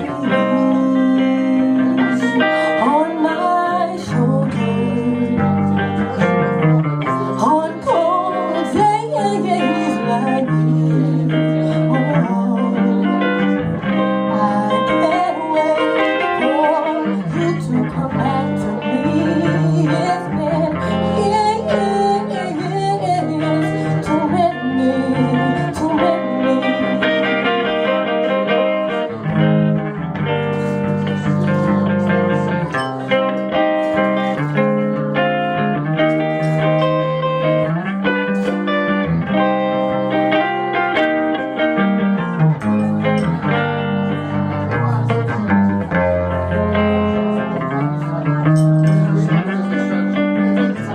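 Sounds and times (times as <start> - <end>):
live guitar music: 0.0 - 50.9.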